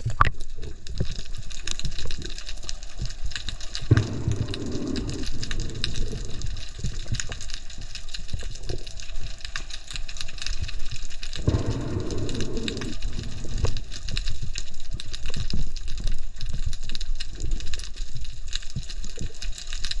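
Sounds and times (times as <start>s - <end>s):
underwater crackle of clicks: 0.0s - 20.0s.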